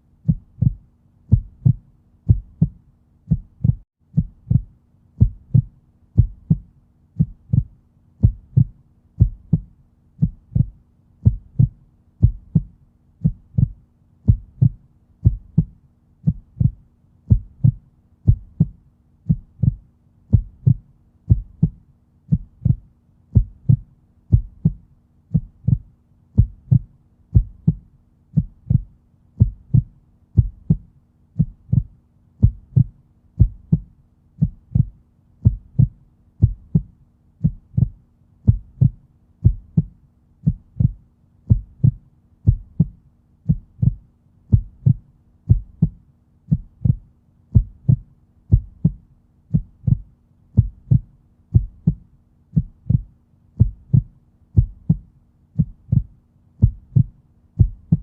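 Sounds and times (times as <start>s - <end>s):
faint steady hum: 0.0s - 58.0s
heartbeat: 0.1s - 58.0s.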